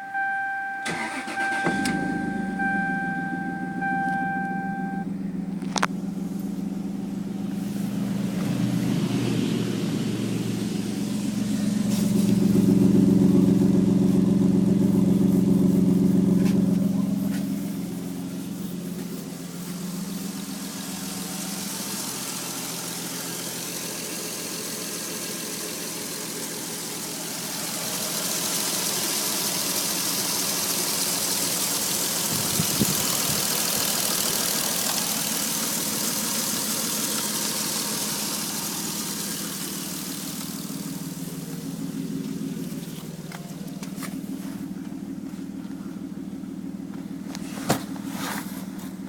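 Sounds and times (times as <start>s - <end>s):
car engine idling: 0.0s - 49.0s
engine hiss: 0.8s - 2.6s, 5.3s - 48.8s.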